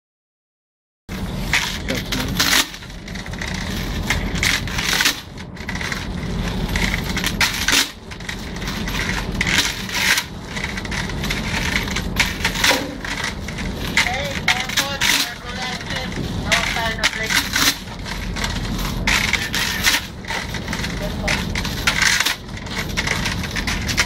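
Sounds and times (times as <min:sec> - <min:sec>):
low hum: 0:01.1 - 0:24.0
metal chain rattling against steel rim: 0:01.2 - 0:24.0.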